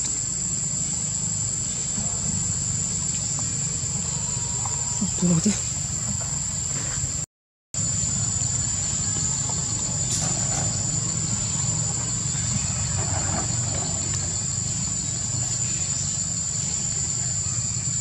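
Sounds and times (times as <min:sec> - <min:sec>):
insect chorus droning: 0:00.0 - 0:18.0.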